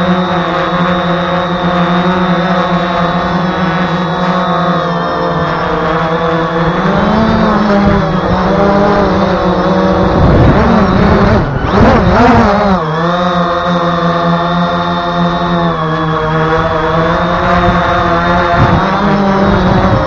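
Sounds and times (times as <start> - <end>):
quadcopter motors humming: 0.0 - 20.0.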